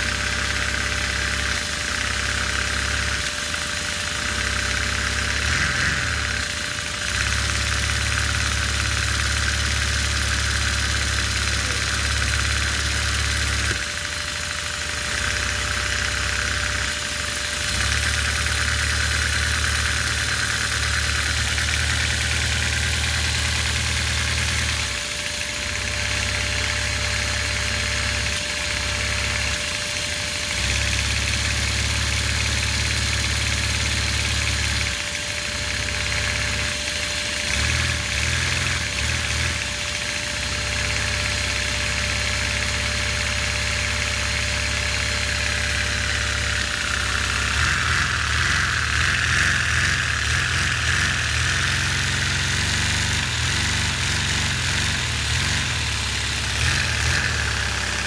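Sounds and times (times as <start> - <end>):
piston engine running: 0.0 - 58.0.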